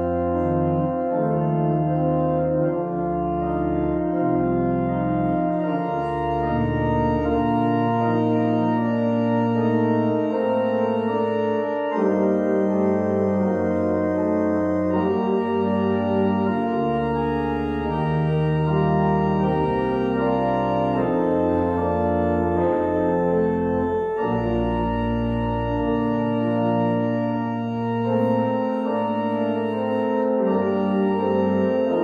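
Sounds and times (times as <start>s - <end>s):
church organ chords: 0.0s - 32.0s
organ pedal bass notes: 0.0s - 32.0s.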